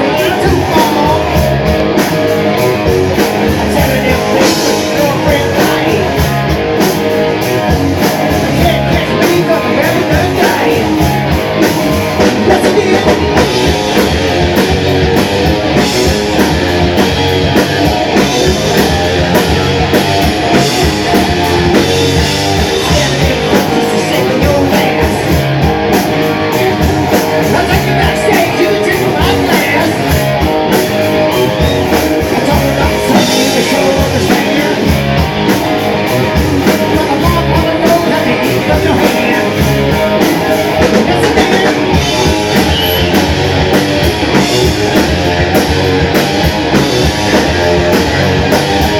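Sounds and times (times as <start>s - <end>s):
drum kit beat: 0.0s - 48.9s
electric guitar: 0.0s - 48.9s.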